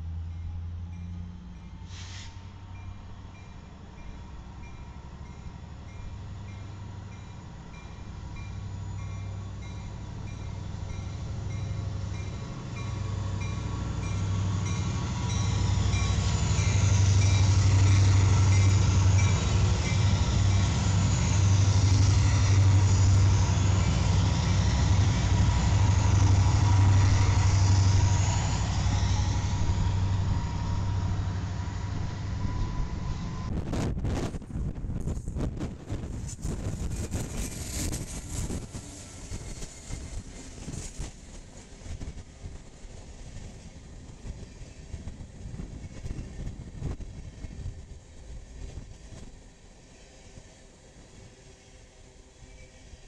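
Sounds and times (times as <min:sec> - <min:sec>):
diesel locomotive engines droning: 0:00.0 - 0:53.0
wheel and rail noise: 0:00.0 - 0:53.0.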